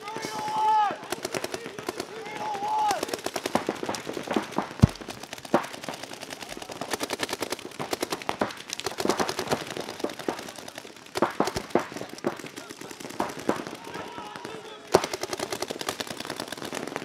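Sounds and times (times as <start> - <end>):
paintball markers firing: 0.1 - 17.0.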